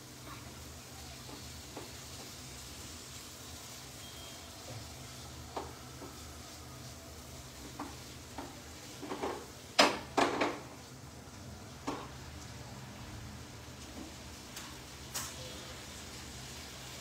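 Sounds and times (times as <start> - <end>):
faint frying sizzle: 0.0 - 17.0.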